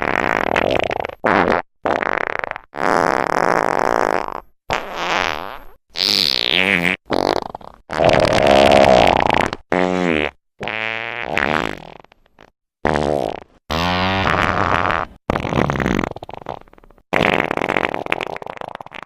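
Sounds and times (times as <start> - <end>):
farts: 0.0 - 19.0.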